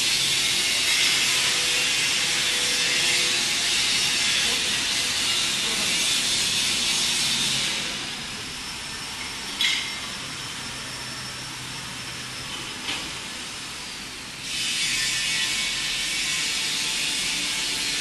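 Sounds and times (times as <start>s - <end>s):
workshop hiss: 0.0s - 18.0s.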